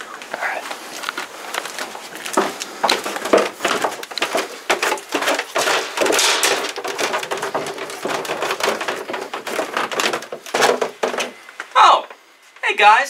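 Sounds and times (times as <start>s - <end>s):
footsteps down a staircase: 0.0s - 11.6s
clothes rustling: 0.0s - 11.7s.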